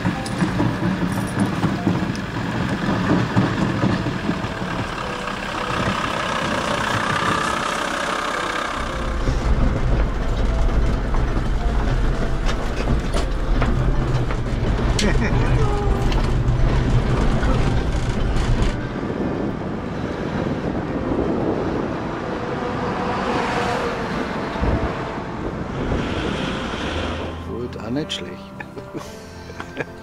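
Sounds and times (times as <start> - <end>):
engine rumbling: 0.0 - 30.0.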